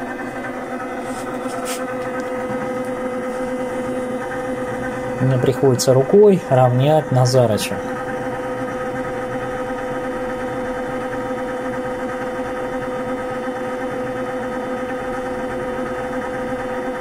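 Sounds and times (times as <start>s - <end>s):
massage machine motor hum: 0.0s - 17.0s.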